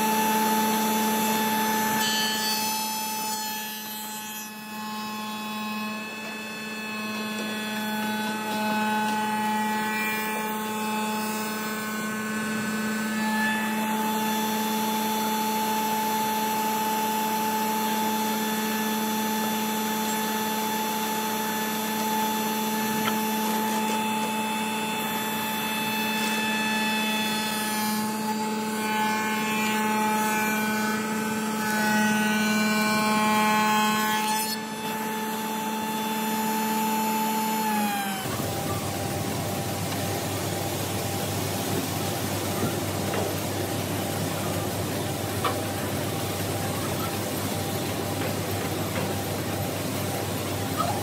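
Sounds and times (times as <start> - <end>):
wood shaper running: 0.0 - 51.0.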